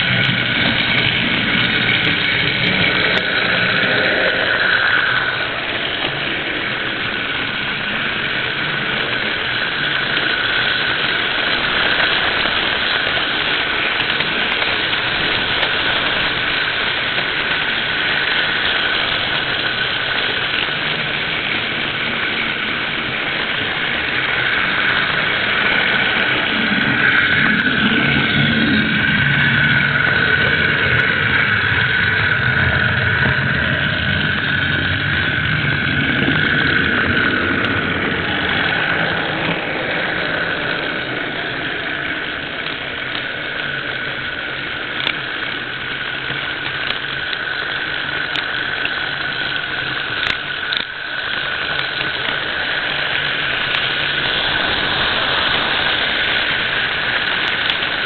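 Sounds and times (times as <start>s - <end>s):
model train whirring on rails: 0.0s - 58.0s.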